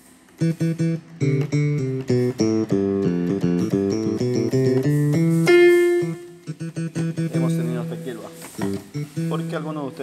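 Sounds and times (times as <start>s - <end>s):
keyboard bass notes: 0.4s - 10.0s.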